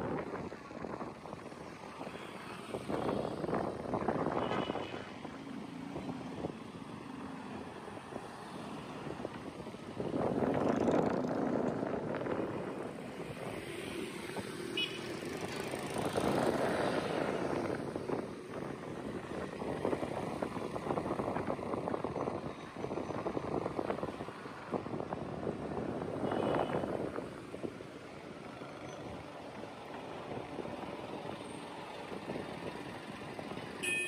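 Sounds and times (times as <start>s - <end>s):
vehicles passing by: 0.0s - 34.0s.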